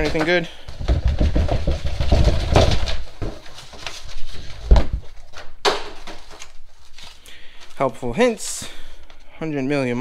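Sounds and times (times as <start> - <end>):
paper rustling: 0.0 - 9.3.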